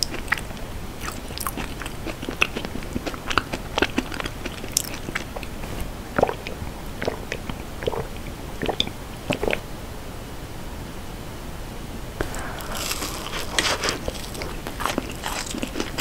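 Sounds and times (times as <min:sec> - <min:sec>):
moist chewing: 0:00.0 - 0:09.6, 0:12.2 - 0:16.0
sipping and gulping: 0:00.0 - 0:09.6, 0:12.2 - 0:16.0.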